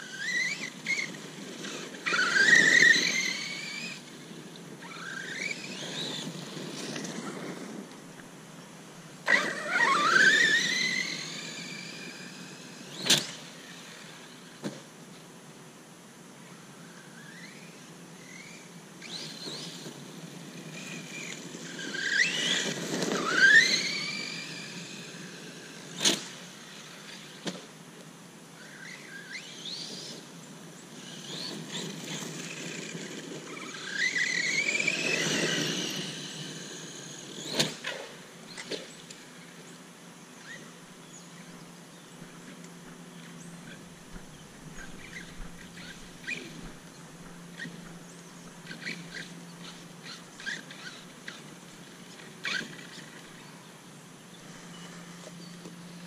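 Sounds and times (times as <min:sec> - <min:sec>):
electric motor whining: 0:00.0 - 0:07.5, 0:09.2 - 0:14.6, 0:17.2 - 0:27.5, 0:28.6 - 0:39.7, 0:40.3 - 0:53.6.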